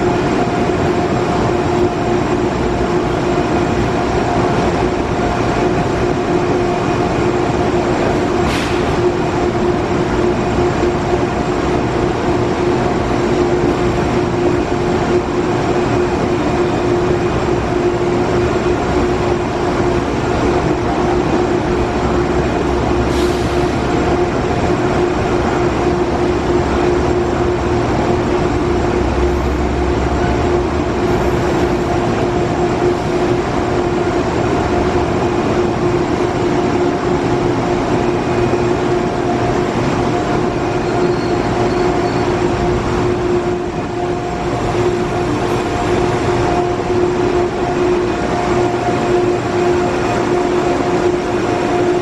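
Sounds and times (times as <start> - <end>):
droning hum: 0.0 - 52.0
train rumbling: 0.0 - 52.0.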